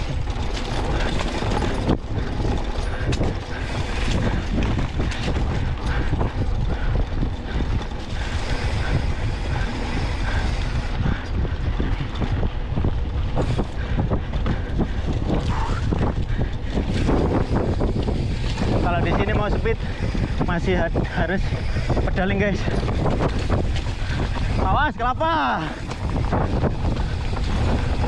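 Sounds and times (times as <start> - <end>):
bike knocking and rattling: 0.0 - 28.0
tyres rumbling on dirt track: 0.0 - 28.0
wind buffeting microphone: 0.0 - 28.0.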